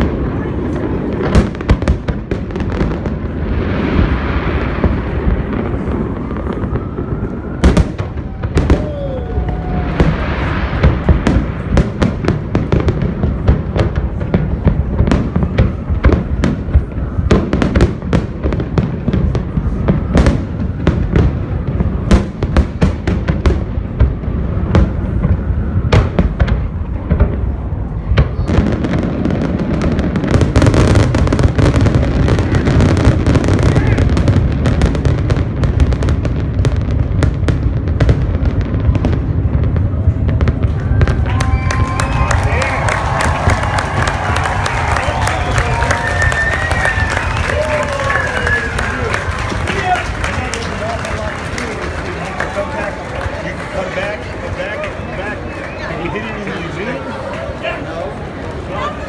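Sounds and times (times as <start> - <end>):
fireworks crackling: 0.0 - 59.0.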